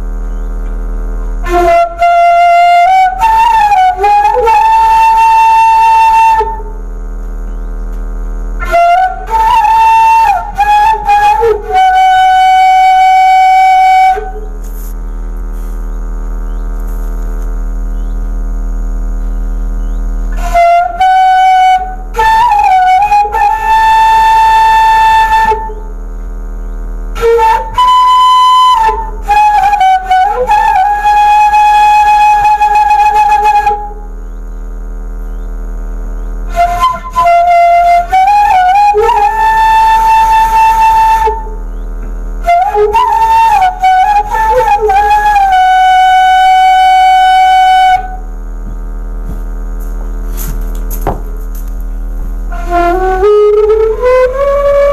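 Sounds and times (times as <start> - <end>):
bamboo flute playing: 0.0 - 18.2, 18.9 - 34.5, 36.2 - 54.9
steady low hum: 0.0 - 54.9.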